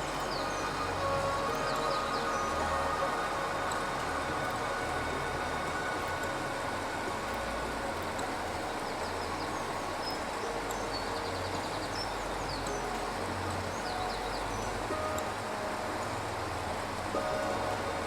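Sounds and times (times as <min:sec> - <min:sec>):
outdoor rumble and hiss: 0:00.0 - 0:18.0.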